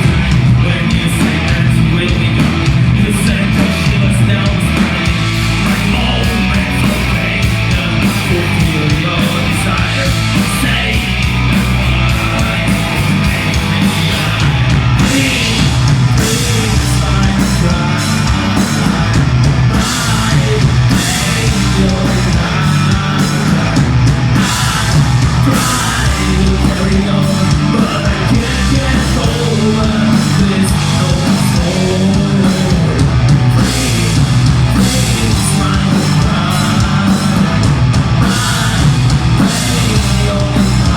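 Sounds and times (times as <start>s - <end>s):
harsh yelled vocals: 0.0s - 40.9s
heavy metal band playing live: 0.0s - 40.9s.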